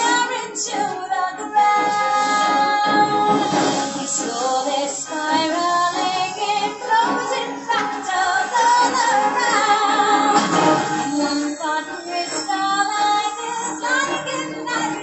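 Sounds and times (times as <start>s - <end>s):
instrumental backing: 0.0s - 15.0s
woman singing show tune: 0.0s - 15.0s.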